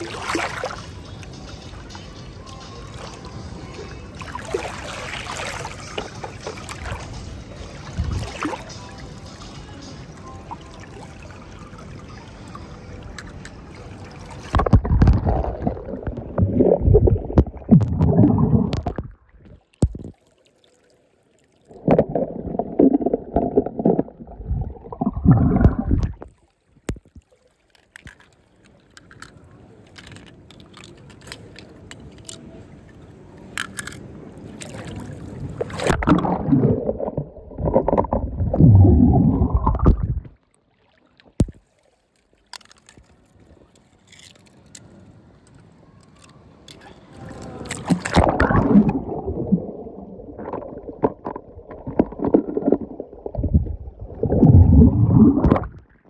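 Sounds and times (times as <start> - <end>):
water splashing and gurgling: 0.0 - 1.9, 3.0 - 9.2, 10.4 - 32.6, 33.4 - 44.8, 46.1 - 56.0.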